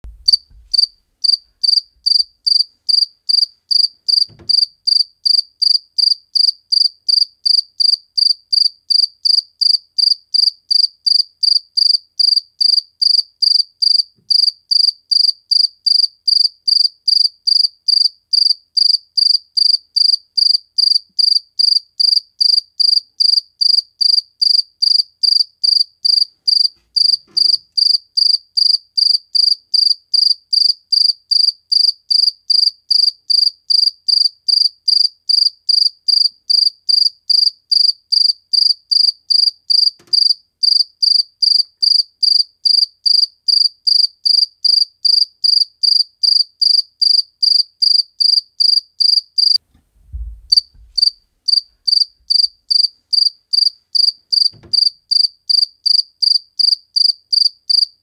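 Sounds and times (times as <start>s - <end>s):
cricket chirping: 0.3s - 49.6s, 50.5s - 57.9s.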